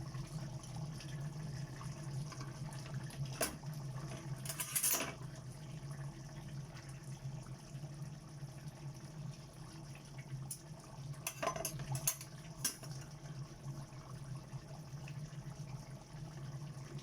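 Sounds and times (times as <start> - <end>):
liquid bubbling: 0.0 - 4.4, 5.2 - 17.0.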